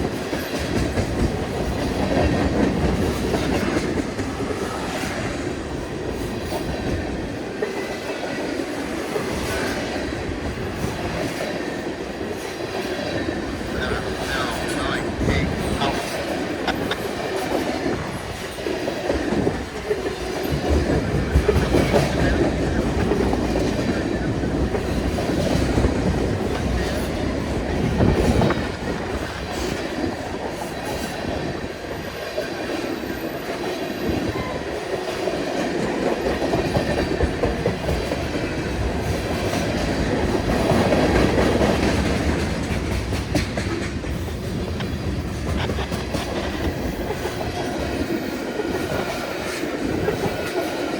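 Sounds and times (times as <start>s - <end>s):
wheels clacking over rail joints: 0.0s - 50.9s.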